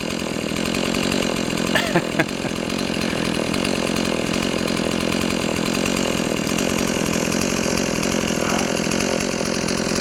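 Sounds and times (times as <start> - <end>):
chainsaw engine running: 0.0 - 10.0.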